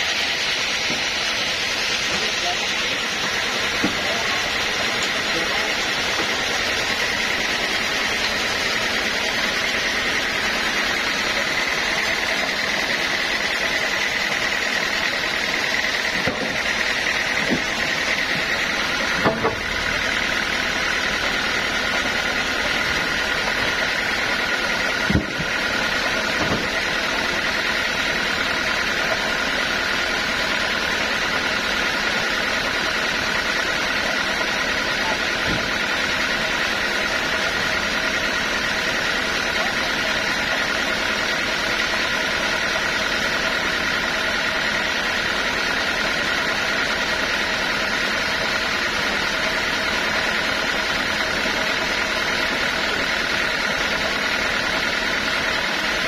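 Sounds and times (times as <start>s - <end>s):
sawmill saw whining: 0.0s - 56.0s.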